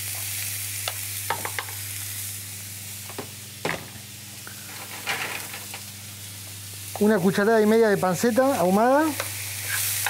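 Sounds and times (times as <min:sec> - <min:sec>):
onion sizzling in oil: 0:00.0 - 0:10.0.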